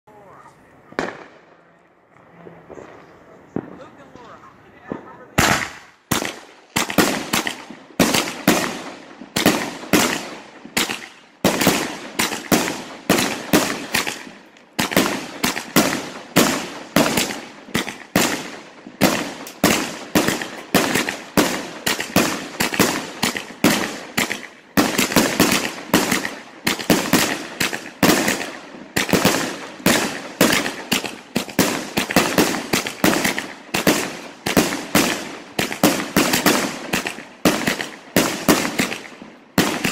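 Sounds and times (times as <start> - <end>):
firework bangs: 0.8 - 39.9.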